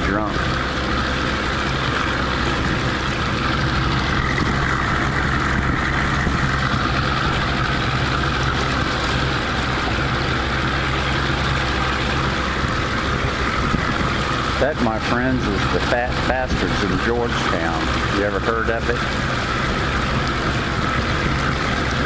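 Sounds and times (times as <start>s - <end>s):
motorboat engine humming: 0.0s - 22.0s.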